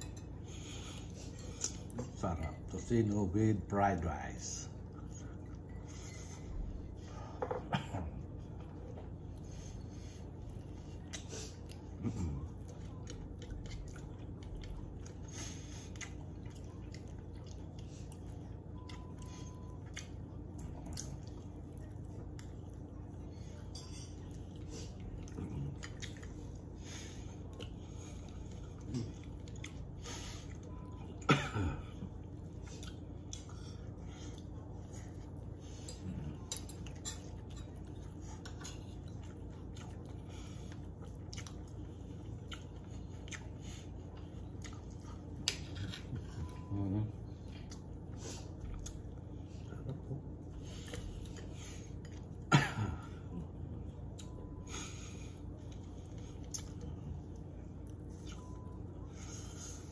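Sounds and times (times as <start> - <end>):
steady low hum: 0.0 - 59.9
chewing: 4.7 - 31.3, 31.9 - 52.5, 53.2 - 59.9.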